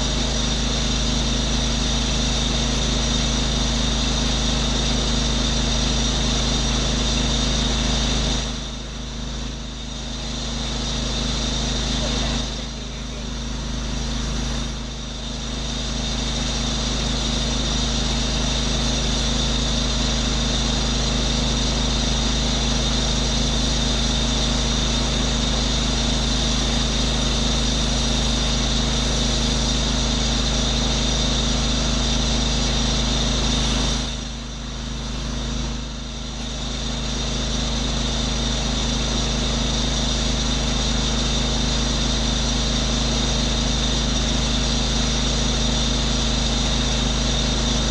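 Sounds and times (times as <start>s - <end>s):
pressure washer engine and pump: 0.0s - 47.9s.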